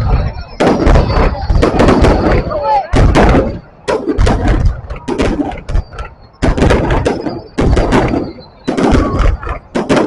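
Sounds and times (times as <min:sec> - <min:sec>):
fireworks exploding with crackle: 0:00.0 - 0:10.0.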